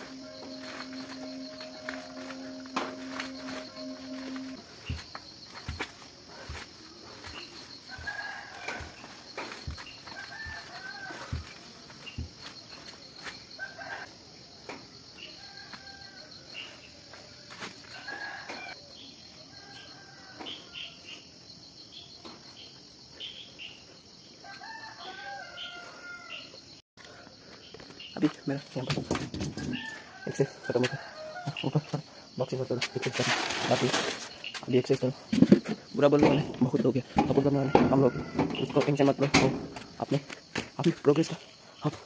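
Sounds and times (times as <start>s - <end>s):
high insect hiss: 0.0s - 42.0s.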